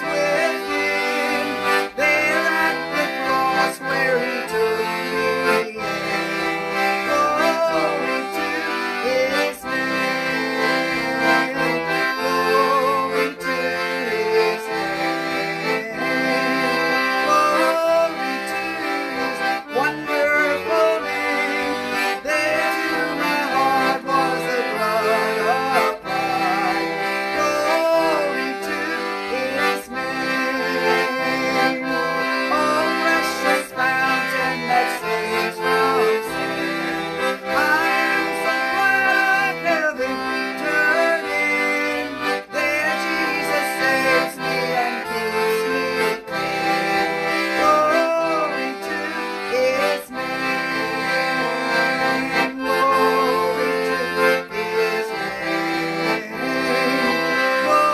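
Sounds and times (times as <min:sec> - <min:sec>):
piano accordion playing a hymn: 0:00.0 - 0:57.9.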